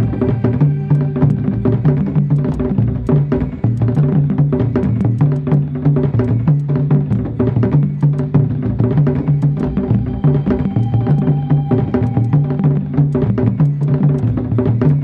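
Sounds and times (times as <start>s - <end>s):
clicking electronic percussion: 0.0s - 15.0s.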